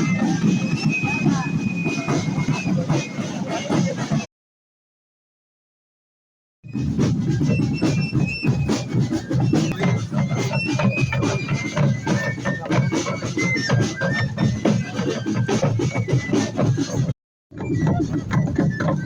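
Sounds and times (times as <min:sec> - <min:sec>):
high-pitched flute melody: 0:00.0 - 0:04.2, 0:06.7 - 0:19.0
steady drumming: 0:00.0 - 0:04.3, 0:06.7 - 0:19.0.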